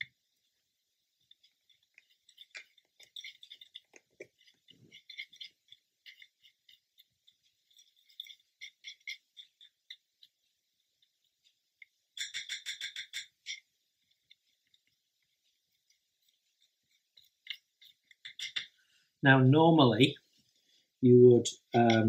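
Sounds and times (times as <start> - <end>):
powder pot rustling: 0.0 - 22.0
tool scraping in a plastic palette: 1.2 - 18.9.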